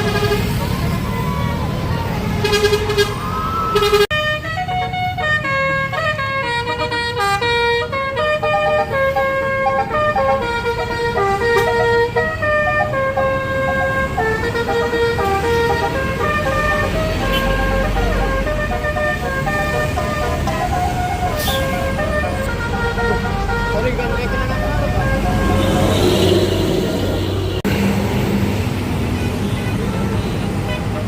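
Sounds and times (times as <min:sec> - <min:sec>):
multi-tone air horn playing a tune: 0:00.0 - 0:00.7, 0:02.4 - 0:27.6
low engine and traffic rumble: 0:00.0 - 0:31.0.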